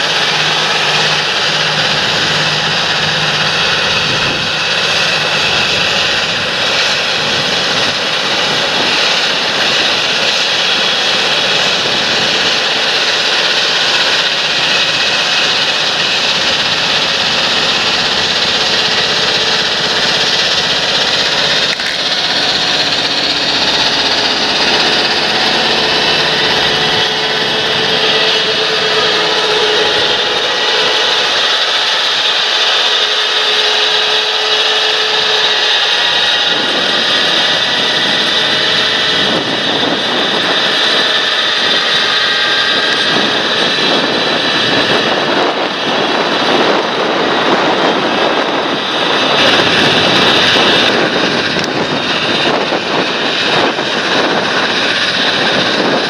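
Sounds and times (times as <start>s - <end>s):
high turbo whine: 0.0s - 56.0s
tractor engine drone: 0.0s - 56.0s.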